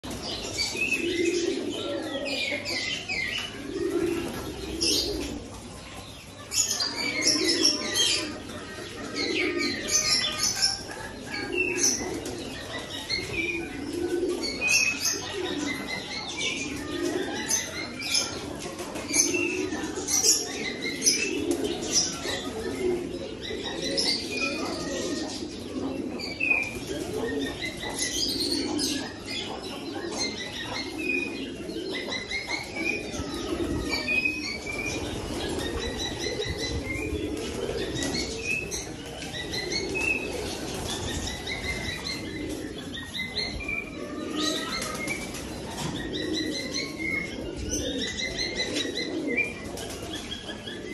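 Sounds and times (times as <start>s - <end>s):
birds chirping: 0.0s - 50.9s
pigeons cooing: 0.0s - 50.9s.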